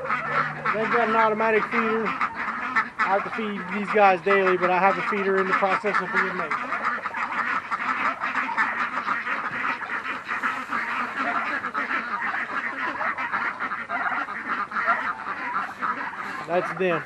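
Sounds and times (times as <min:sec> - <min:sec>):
ducks and poultry quacking: 0:00.0 - 0:17.0.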